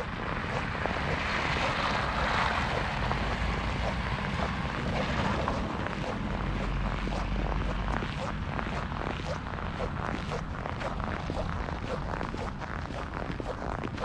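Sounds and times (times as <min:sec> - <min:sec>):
car passing on snowy road: 0:00.0 - 0:14.0
footsteps crunching on snow: 0:00.0 - 0:14.0.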